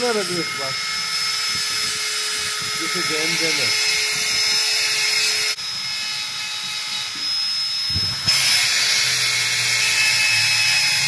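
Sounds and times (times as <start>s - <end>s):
die grinder grinding metal: 0.0s - 11.0s.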